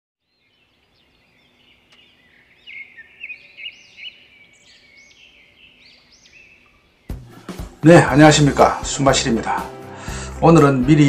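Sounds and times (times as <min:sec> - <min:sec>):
songbirds singing and chirping: 0:00.2 - 0:11.0.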